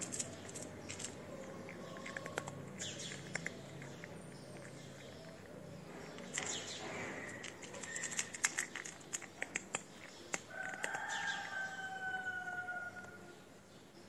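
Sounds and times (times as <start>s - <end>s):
cat crunching dry kibble: 0.0s - 11.6s.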